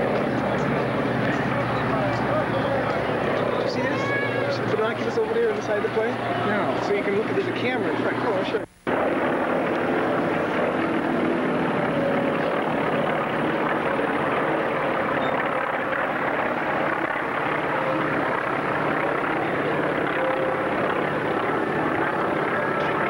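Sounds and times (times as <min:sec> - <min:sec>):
propeller aircraft engines droning: 0:00.0 - 0:23.0.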